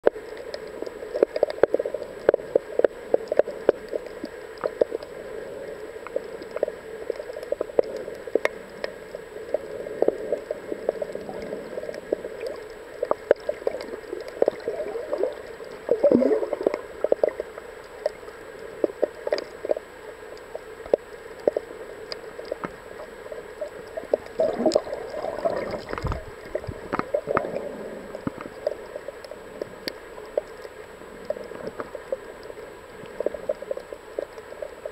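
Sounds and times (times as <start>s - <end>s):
muffled underwater noise: 0.0s - 34.9s
sharp crackling clicks: 0.0s - 34.9s
water gurgling: 0.0s - 34.9s.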